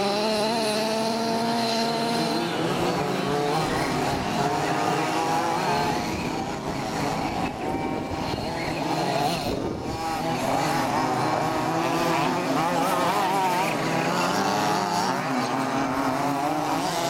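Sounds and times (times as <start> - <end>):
rc buggy engines buzzing: 0.0 - 17.0.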